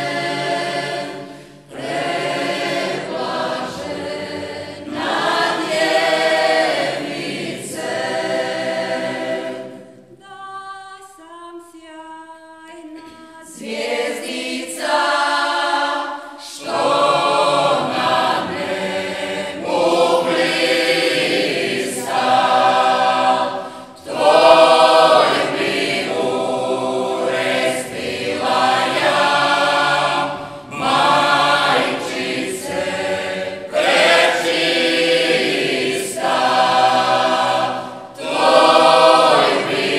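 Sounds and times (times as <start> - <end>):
mixed choir singing a hymn: 0.0 - 11.7, 12.9 - 39.9.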